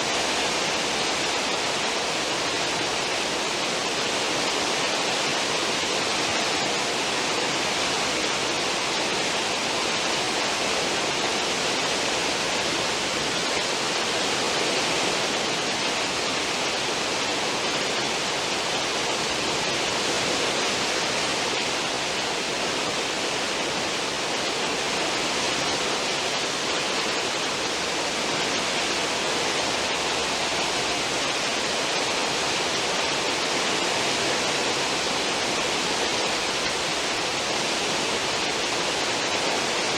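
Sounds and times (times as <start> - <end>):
rush of foaming water: 0.0 - 39.9.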